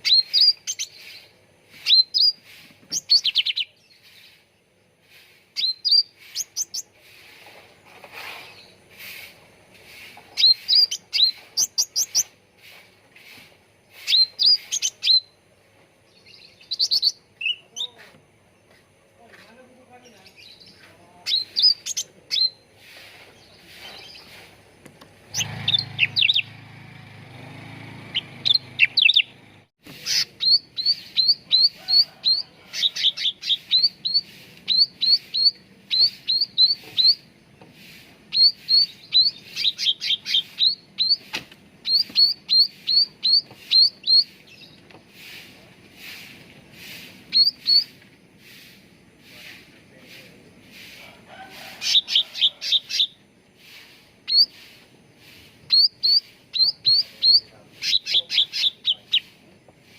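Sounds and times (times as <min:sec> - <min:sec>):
bird chirping: 0:00.0 - 0:18.9, 0:19.7 - 0:26.6, 0:27.2 - 0:49.6, 0:51.8 - 0:59.6.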